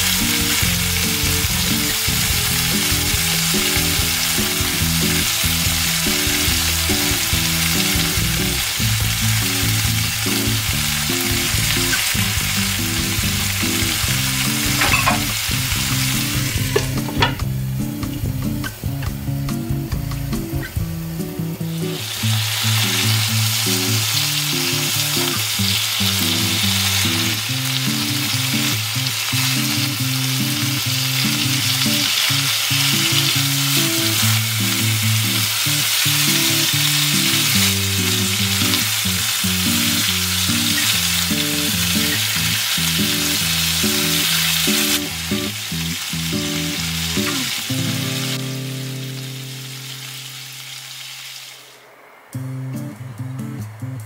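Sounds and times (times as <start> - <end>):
prawns sizzling in a pan: 0.0 - 52.6.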